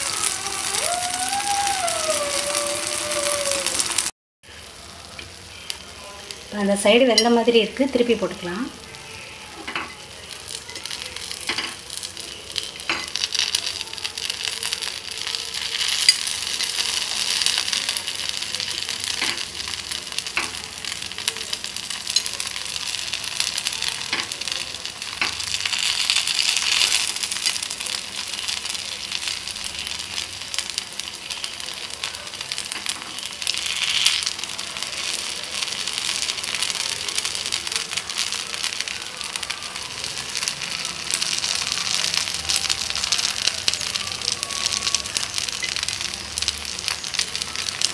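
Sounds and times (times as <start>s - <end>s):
batter sizzling in hot oil: 0.0s - 47.9s.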